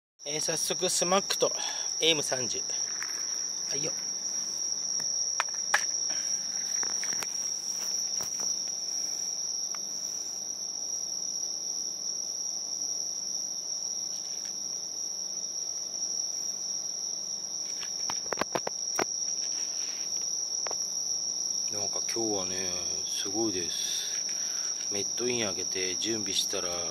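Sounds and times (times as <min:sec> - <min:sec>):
insects chirping: 0:00.2 - 0:26.9.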